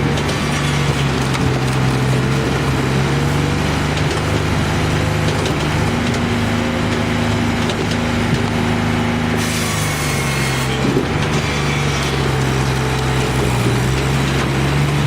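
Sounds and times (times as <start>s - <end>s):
engine and hydraulics drone: 0.0s - 15.0s.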